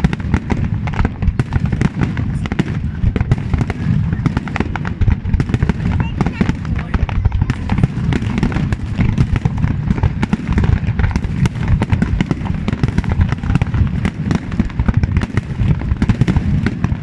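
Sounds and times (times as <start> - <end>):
firework bangs and crackling: 0.0 - 17.0
low firework booms: 0.0 - 17.0.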